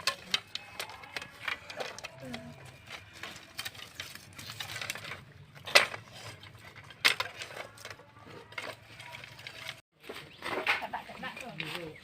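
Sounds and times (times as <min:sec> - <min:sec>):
utensils and dishes clinking: 0:00.0 - 0:09.8.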